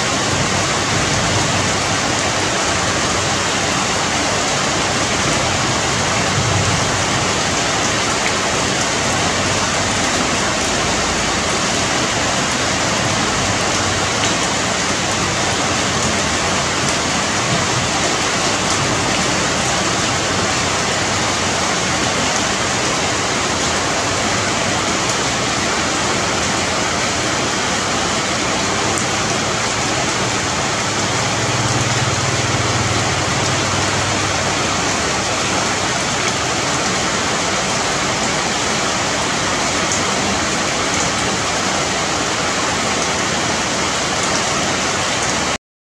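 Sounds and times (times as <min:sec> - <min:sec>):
rain pattering on leaves: 0:00.0 - 0:45.6.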